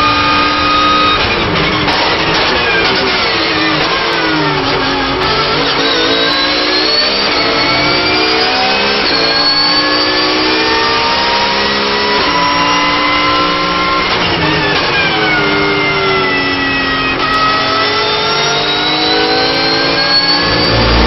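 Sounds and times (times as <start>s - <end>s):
race car engine at full throttle: 0.0s - 21.0s.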